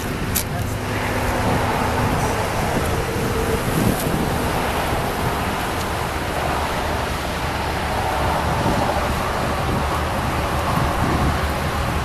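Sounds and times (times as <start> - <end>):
road traffic: 0.0 - 12.0
wind noise on microphone: 0.0 - 12.0.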